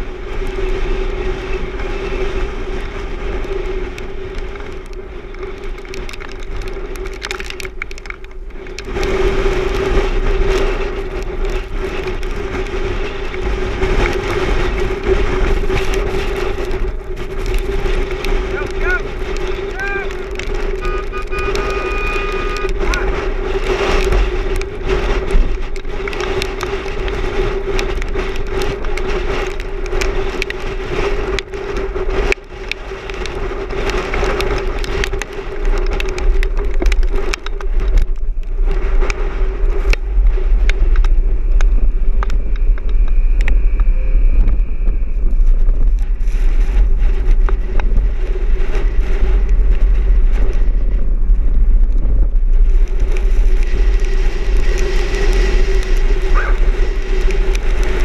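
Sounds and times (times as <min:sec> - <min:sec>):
heavy low rumble: 0:00.0 - 0:58.0
sharp clicks and crackles: 0:00.0 - 0:58.0
vehicle engine and road noise: 0:00.0 - 0:58.0.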